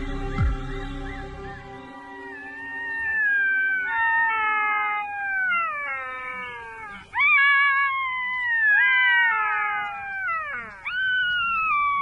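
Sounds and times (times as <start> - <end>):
jackals wailing in chorus: 0.0 - 12.0.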